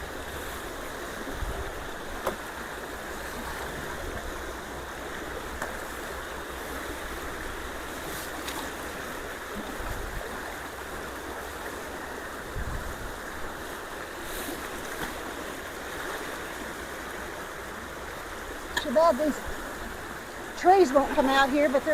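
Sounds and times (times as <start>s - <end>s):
creek water rushing: 0.0s - 21.9s.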